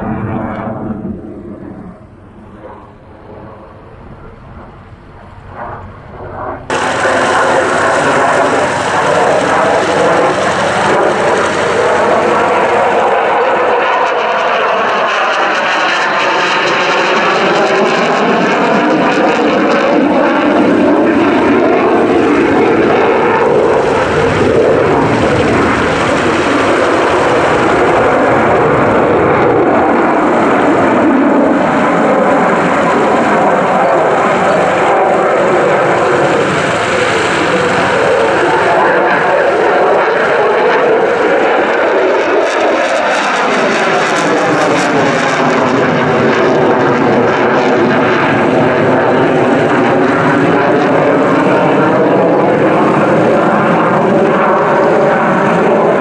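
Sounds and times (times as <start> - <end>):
fighter jet engine roaring: 0.0 - 56.0.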